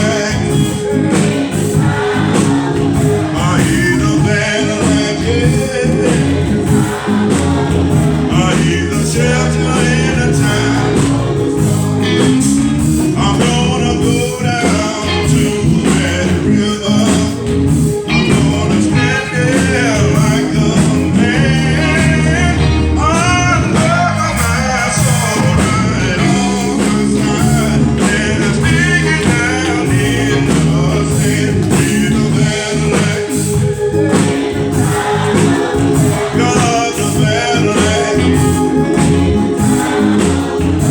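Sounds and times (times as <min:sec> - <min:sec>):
church band playing: 0:00.0 - 0:40.9
people singing: 0:00.0 - 0:40.9.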